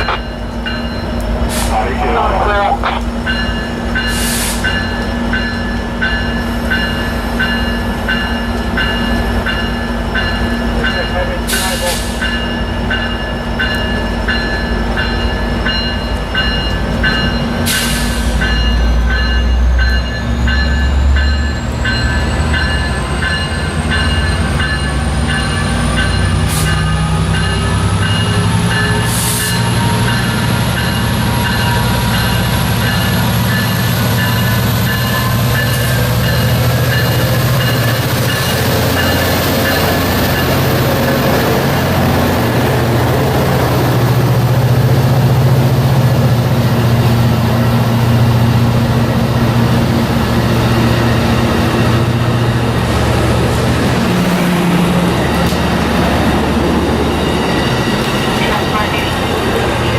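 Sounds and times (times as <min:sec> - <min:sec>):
train rumbling and whining: 0:00.0 - 0:59.9.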